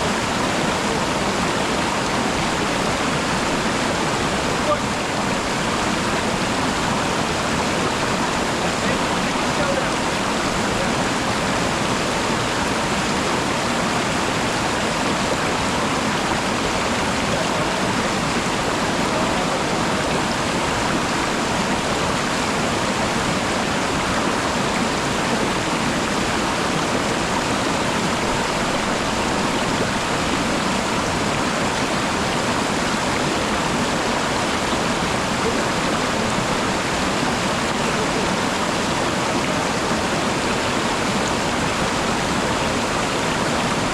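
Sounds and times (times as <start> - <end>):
waterfall rushing and splashing: 0.0 - 43.9.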